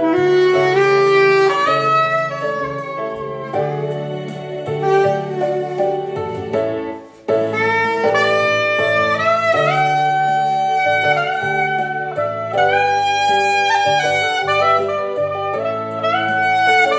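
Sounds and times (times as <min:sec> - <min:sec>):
soprano saxophone melody: 0:00.0 - 0:16.9.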